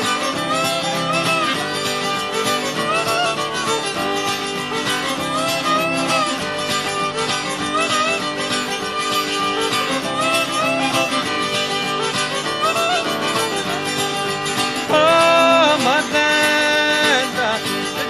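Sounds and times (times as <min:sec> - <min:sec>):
fiddle: 0:00.0 - 0:18.0
guitar: 0:00.0 - 0:18.0.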